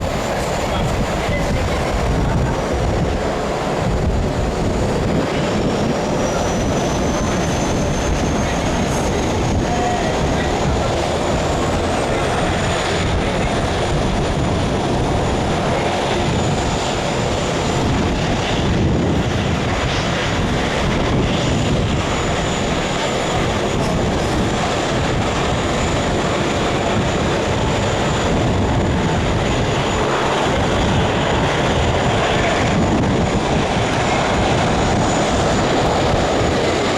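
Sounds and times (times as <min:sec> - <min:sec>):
high-pitched engine whine: 0:00.0 - 0:36.9
jet engines running: 0:00.0 - 0:36.9.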